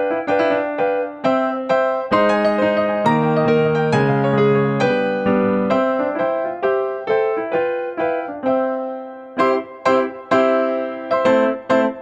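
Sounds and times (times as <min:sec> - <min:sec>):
piano single notes: 0:00.0 - 0:12.0.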